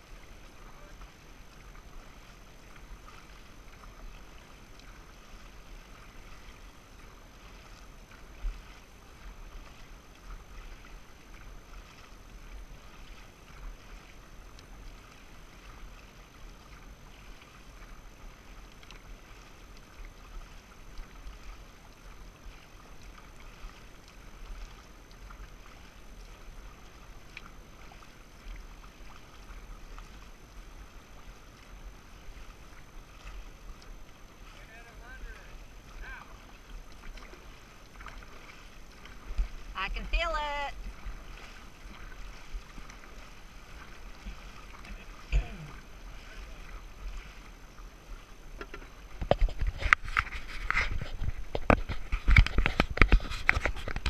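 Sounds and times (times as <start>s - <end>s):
paddles splashing through water: 0.0s - 54.0s.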